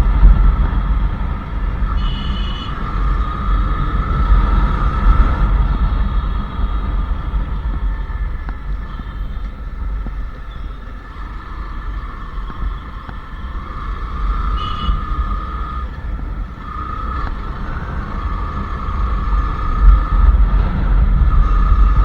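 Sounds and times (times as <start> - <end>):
motorcycle engine running: 0.0 - 22.0
wind on microphone: 0.0 - 22.0.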